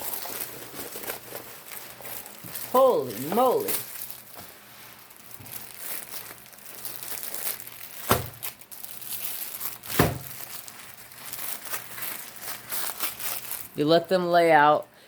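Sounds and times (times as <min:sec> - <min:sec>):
plastic packaging crinkling: 0:00.0 - 0:14.5.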